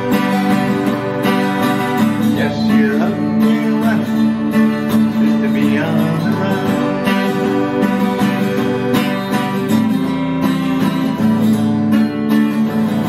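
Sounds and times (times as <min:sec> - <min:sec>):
twelve-string acoustic guitar strumming: 0:00.0 - 0:13.0.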